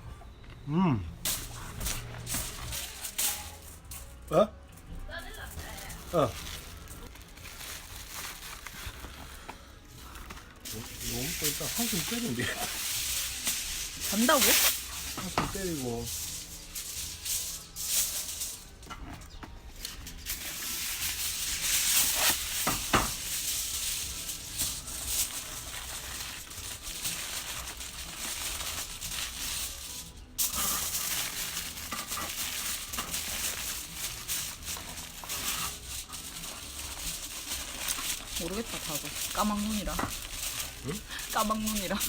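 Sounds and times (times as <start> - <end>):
campfire crackling and popping: 5.0 - 42.0.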